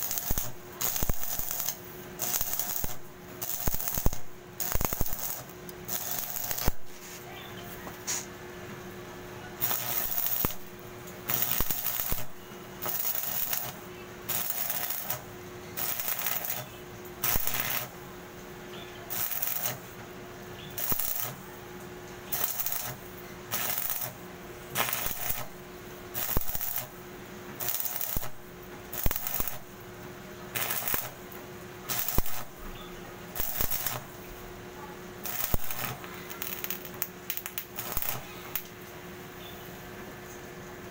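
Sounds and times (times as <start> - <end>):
welding arc crackling: 0.0 - 7.2, 9.6 - 18.0, 19.1 - 20.0, 20.7 - 21.4, 22.2 - 29.9, 30.5 - 34.5, 35.1 - 38.9
steady low hum: 0.0 - 40.9.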